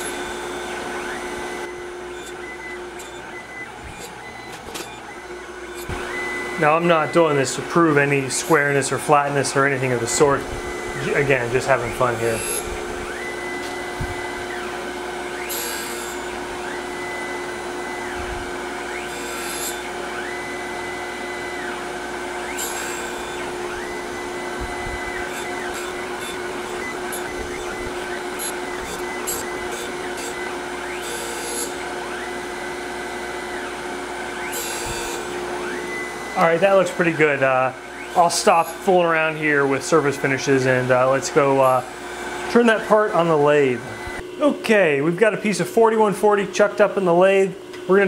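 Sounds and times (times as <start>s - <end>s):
grinder table whine: 0.0s - 48.0s
grinder wheel hum: 0.0s - 48.0s.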